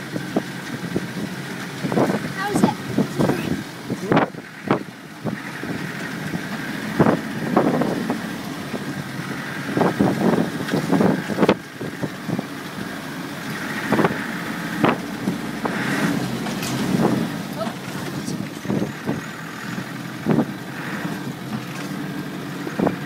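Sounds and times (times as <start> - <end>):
knocks and bangs over rough ground: 0.0 - 23.0
vehicle engine and road noise: 0.0 - 23.0.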